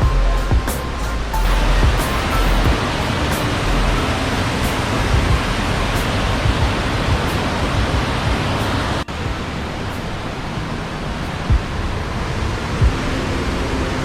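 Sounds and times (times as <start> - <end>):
waterfall rushing: 1.2 - 14.0.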